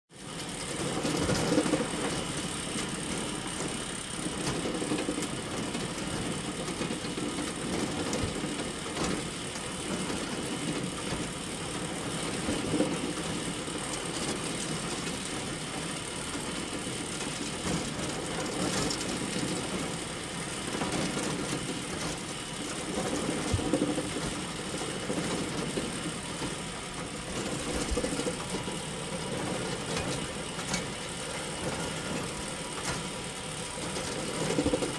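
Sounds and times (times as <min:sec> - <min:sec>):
conveyor mechanical rattle: 0:00.2 - 0:34.9.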